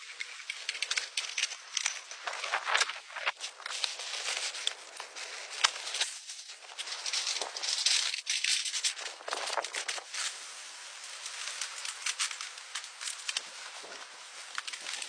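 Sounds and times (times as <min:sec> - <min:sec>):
dry material rustling and crackling: 0:00.0 - 0:15.0.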